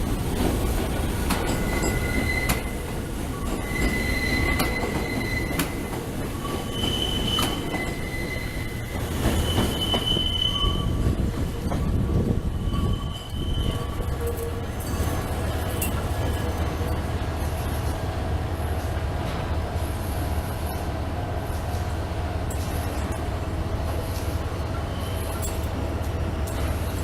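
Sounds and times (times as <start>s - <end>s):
electric train rumbling: 0.0s - 27.0s
train wheel squeal: 1.3s - 27.0s.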